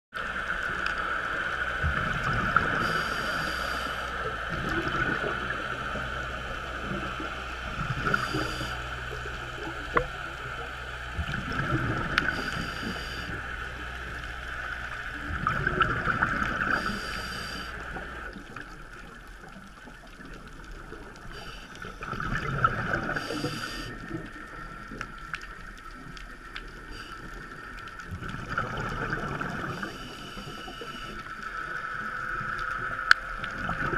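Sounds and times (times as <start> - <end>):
steady high hum: 0.2 - 19.9, 20.5 - 33.9
underwater exhaled bubbles rushing: 0.2 - 33.9.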